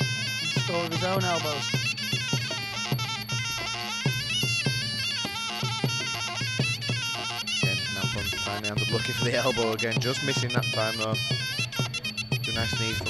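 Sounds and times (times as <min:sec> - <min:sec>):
drum beats: 0:00.0 - 0:13.0
shrill oboe melody: 0:00.0 - 0:13.0.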